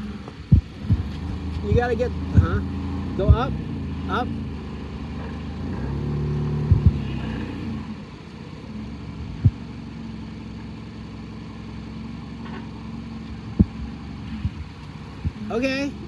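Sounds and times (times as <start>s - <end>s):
forklift engine revving and idling: 0.0s - 16.0s.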